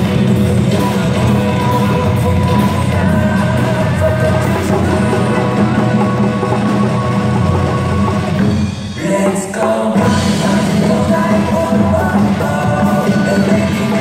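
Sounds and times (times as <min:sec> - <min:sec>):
singing: 0:00.0 - 0:08.4, 0:09.0 - 0:14.0
rock music on drums: 0:00.0 - 0:14.0.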